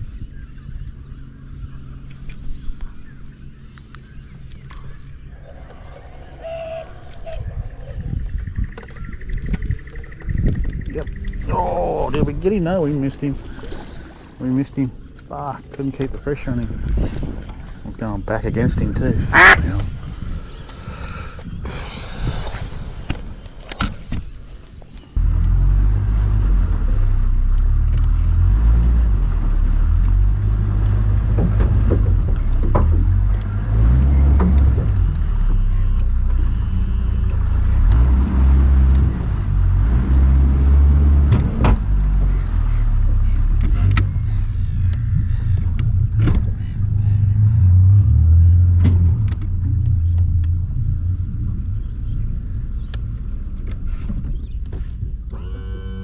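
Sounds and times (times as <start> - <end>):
boat motor and wind rumble: 0.0 - 56.0.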